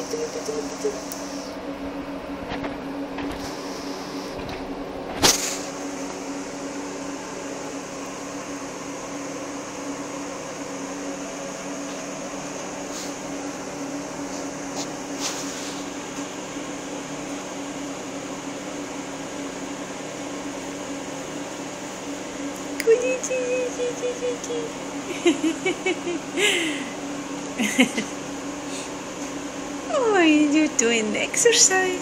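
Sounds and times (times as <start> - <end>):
appliance hum with high whine: 0.0 - 32.0.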